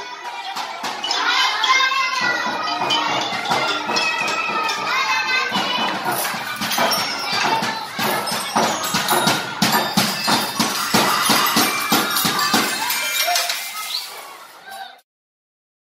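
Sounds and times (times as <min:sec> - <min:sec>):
music with fast percussion beat: 0:00.1 - 0:13.9.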